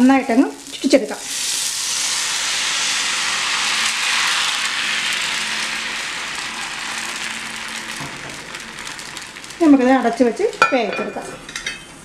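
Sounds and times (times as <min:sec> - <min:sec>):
batter sizzling in a pan: 0:00.0 - 0:12.0.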